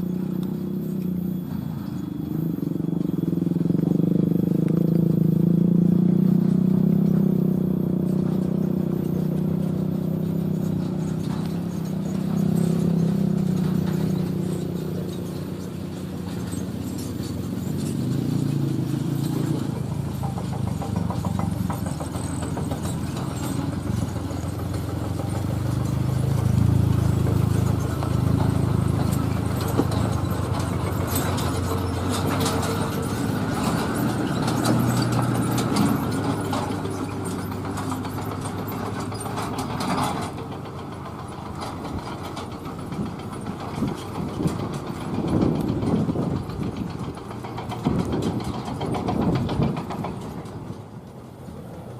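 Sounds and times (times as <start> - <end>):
truck engine running: 0.0 - 51.9
clattering rattles: 3.0 - 51.2.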